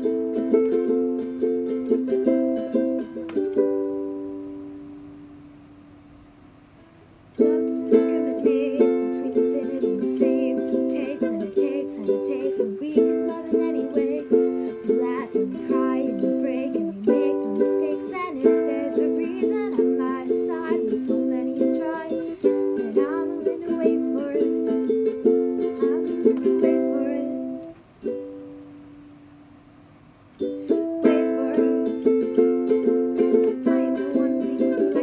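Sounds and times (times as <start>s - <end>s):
strummed ukulele chords: 0.0s - 35.0s.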